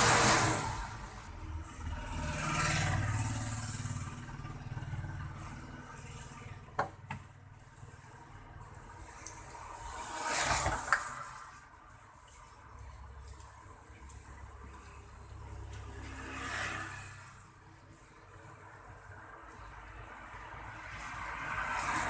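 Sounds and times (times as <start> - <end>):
vehicles passing on road: 0.0 - 22.0.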